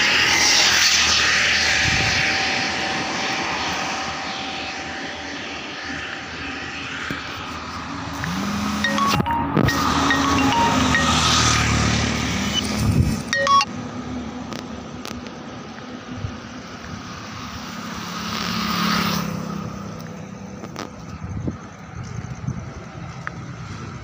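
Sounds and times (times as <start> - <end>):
vehicles going by: 0.0 - 24.0.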